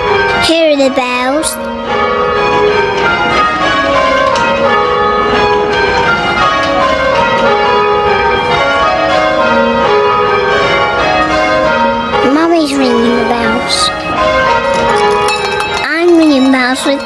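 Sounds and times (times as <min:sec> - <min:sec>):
church bells change ringing: 0:00.0 - 0:17.0.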